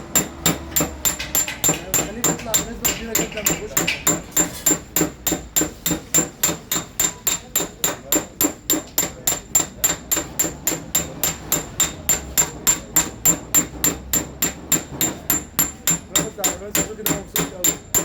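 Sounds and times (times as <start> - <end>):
hammer tapping sheet metal: 0.0 - 18.0.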